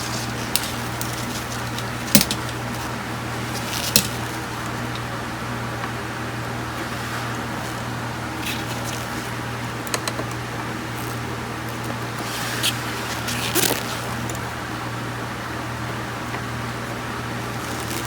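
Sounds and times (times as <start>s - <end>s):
low equipment hum: 0.0s - 18.0s.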